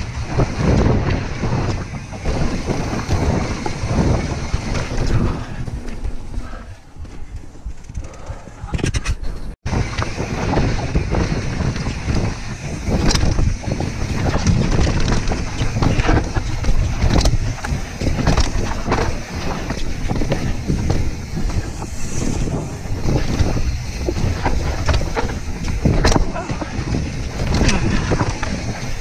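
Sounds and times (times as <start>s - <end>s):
bike rattling and knocking: 0.0s - 29.0s
bike tyre rumble: 0.0s - 29.0s
wind on microphone: 0.0s - 29.0s.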